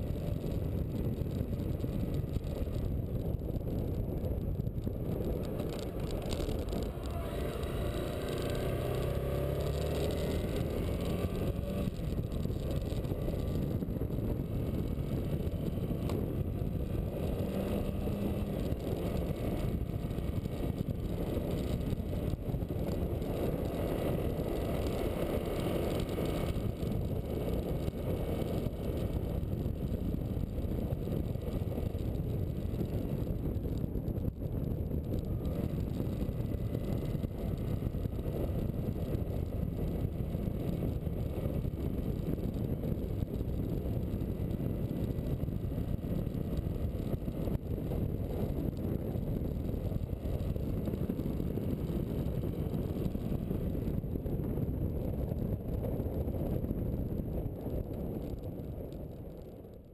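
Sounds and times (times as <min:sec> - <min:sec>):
motorcycle engine and wind rush: 0:00.0 - 0:59.9.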